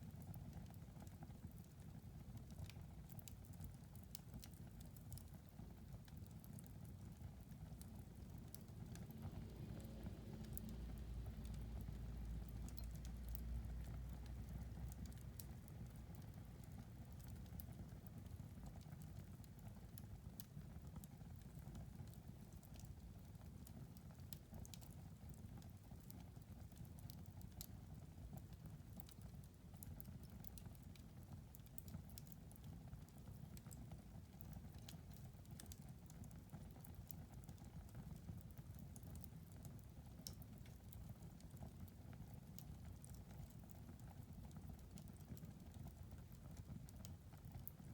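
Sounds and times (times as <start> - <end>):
wood fire crackling: 0.1 - 47.9.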